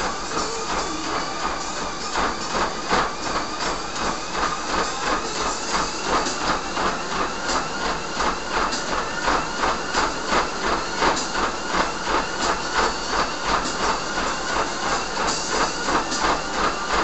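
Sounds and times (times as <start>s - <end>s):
footfalls thudding on treadmill belt: 0.0s - 17.0s
treadmill motor whirring: 0.0s - 17.0s.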